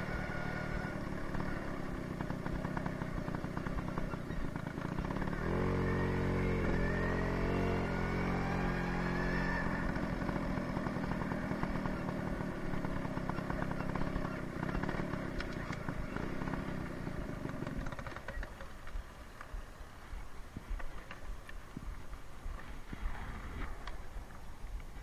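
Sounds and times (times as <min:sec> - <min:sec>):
road noise: 0:00.0 - 0:25.0
scooter engine running: 0:00.0 - 0:25.0.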